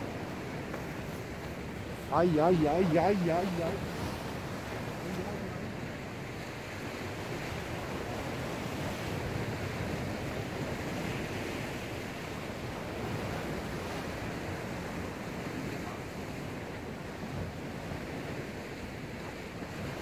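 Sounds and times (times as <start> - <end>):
surf washing over rocky shore: 0.0 - 20.0.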